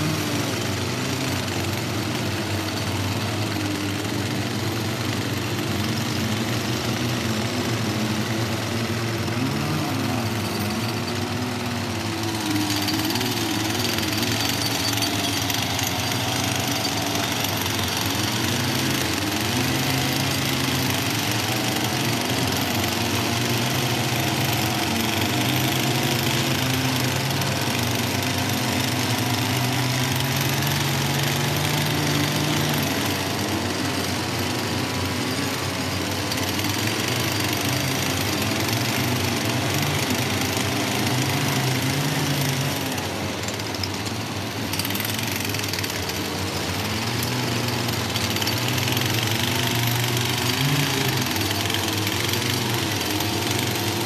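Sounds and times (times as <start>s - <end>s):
petrol rock breakers hammering: 0.0s - 54.0s.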